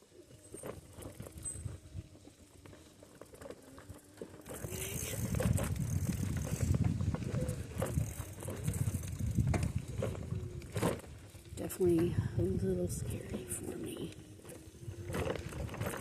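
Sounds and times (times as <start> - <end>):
bike rattles and knocks: 0.0 - 16.0
bike tyres on dirt trail: 0.0 - 16.0.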